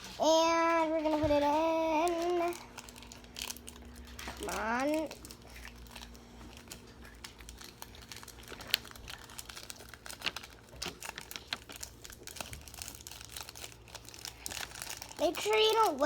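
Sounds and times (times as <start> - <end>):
seasoning packet crinkling: 1.8 - 16.0.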